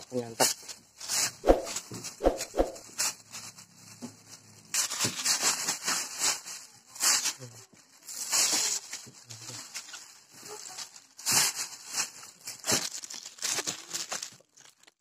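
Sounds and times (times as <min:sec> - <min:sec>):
plastic bag crinkling: 0:00.1 - 0:15.0.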